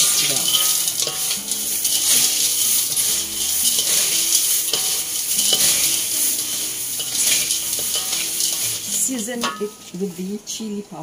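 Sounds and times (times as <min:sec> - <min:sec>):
spatulas scraping pan: 0:00.0 - 0:10.2
cornflakes crackling in wok: 0:00.0 - 0:11.0.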